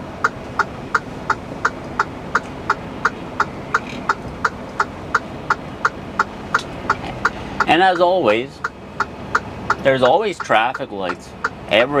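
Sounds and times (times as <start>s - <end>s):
truck engine idling: 0.0s - 12.0s
turn signal ticking: 0.0s - 12.0s.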